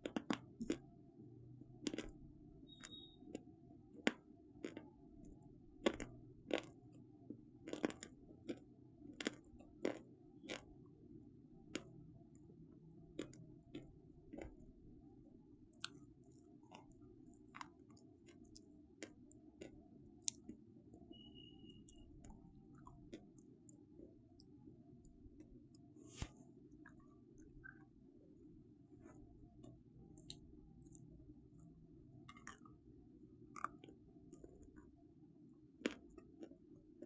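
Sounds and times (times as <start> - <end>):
crunchy food chewing: 1.8 - 11.0, 13.1 - 14.8, 15.7 - 27.9, 28.9 - 37.0.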